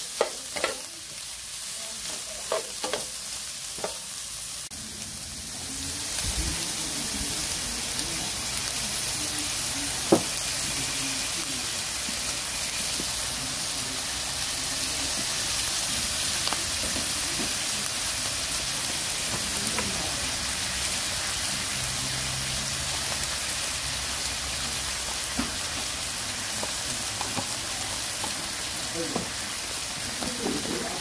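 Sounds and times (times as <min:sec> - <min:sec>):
eel pieces sizzling in wok: 0:00.0 - 0:31.0.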